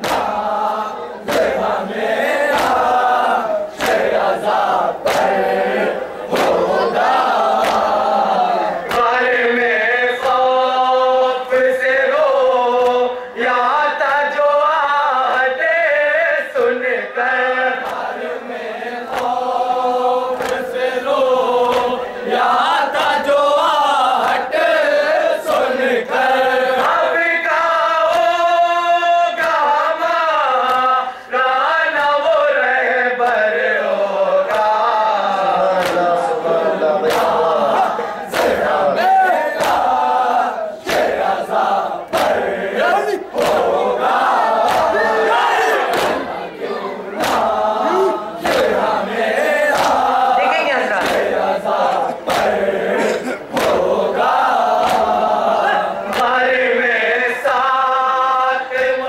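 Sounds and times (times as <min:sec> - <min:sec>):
men chanting a lament: 0:00.0 - 0:59.0.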